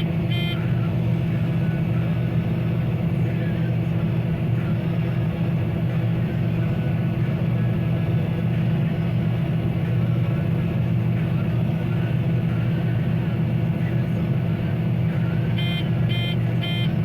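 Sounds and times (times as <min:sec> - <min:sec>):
combine harvester engine droning: 0:00.0 - 0:17.0.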